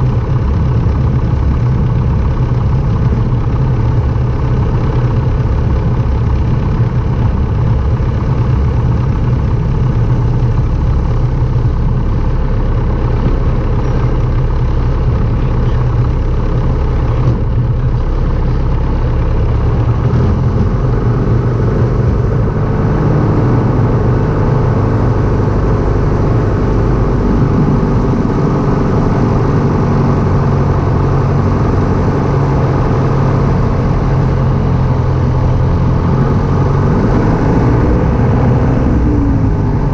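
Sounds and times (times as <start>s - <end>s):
light aircraft engine running: 0.0s - 39.9s.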